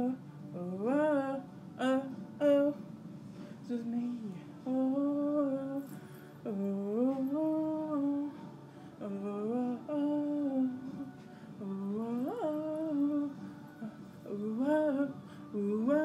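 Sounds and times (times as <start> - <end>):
woman singing wordless notes: 0.0 - 16.0.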